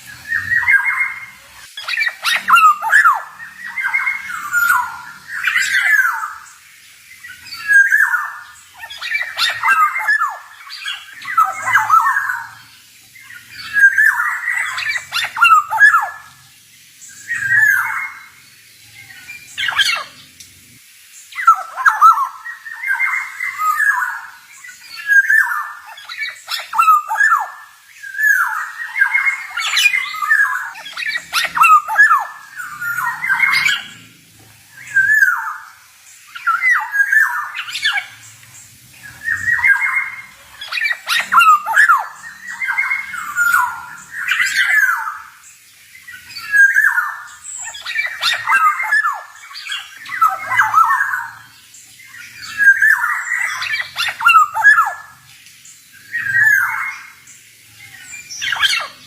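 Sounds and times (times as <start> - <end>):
bird singing whistled notes: 0.0 - 20.3, 21.2 - 34.1, 34.7 - 55.2, 55.9 - 59.0.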